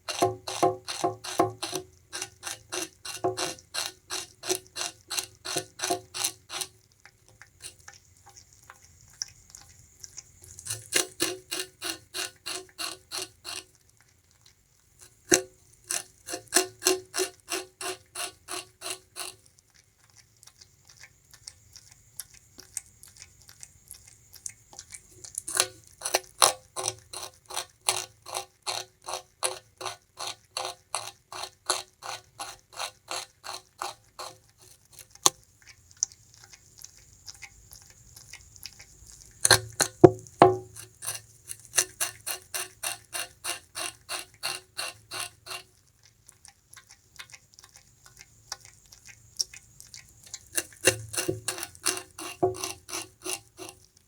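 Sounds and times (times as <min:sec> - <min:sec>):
rat gnawing sugarcane: 0:00.0 - 0:54.0.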